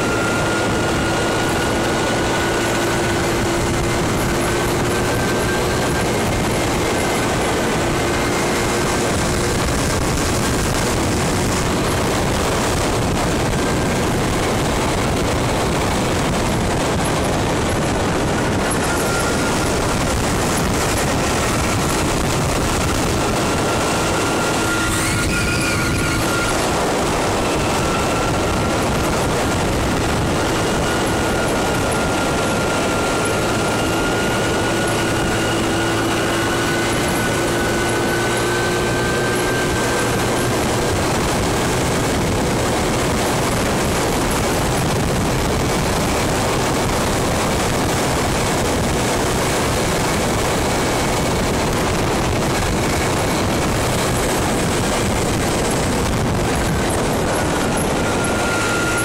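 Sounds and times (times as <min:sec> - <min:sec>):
scooter engine droning: 0:00.0 - 0:59.0
wind and road noise: 0:00.0 - 0:59.0.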